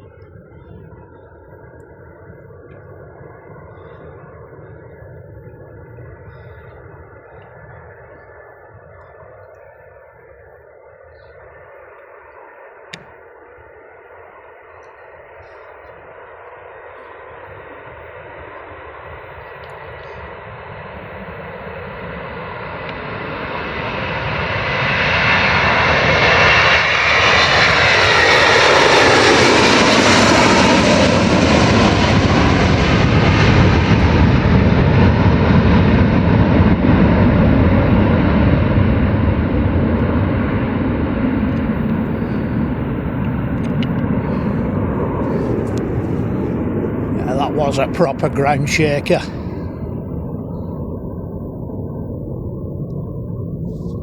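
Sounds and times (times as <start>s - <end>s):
jet engines roaring at takeoff: 0.0s - 54.0s.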